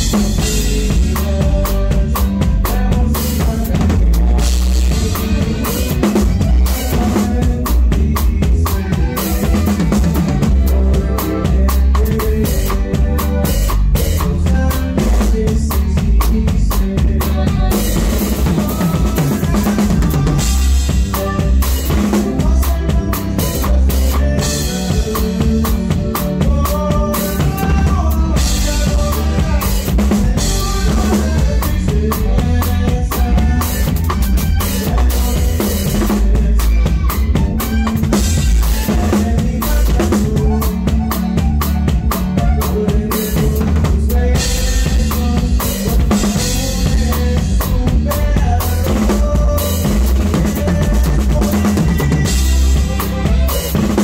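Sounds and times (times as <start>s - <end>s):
drum kit beat: 0.0s - 54.0s
heavy bass line: 0.0s - 54.0s
live band playing: 0.0s - 54.0s.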